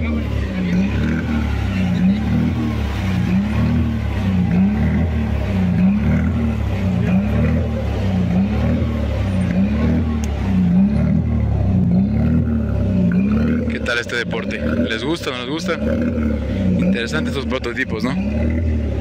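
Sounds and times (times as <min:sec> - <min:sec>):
engine running with pulsing pitch: 0:00.0 - 0:19.0.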